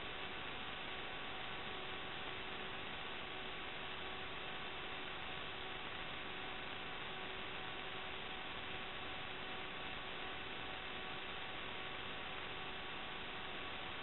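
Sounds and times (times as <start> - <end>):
faint electrical hum: 0.0 - 14.0
static hiss: 0.0 - 14.0.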